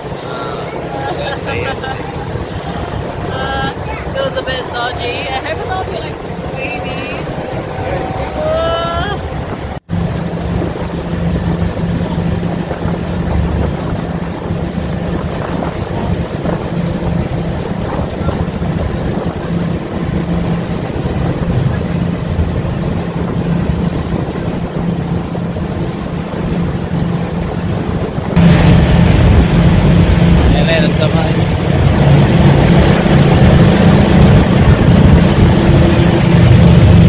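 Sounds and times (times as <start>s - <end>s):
ferry engines droning: 0.0s - 37.0s
wind rush: 0.0s - 37.0s.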